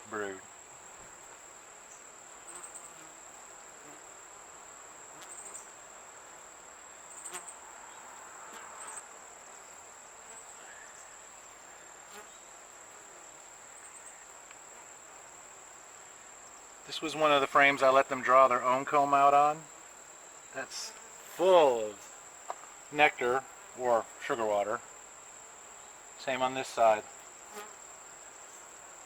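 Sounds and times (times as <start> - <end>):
cricket trill: 0.0 - 29.0
honeybees humming: 0.0 - 29.0.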